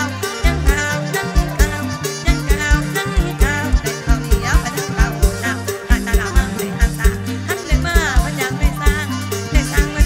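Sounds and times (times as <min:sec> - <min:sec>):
band playing: 0:00.0 - 0:10.0.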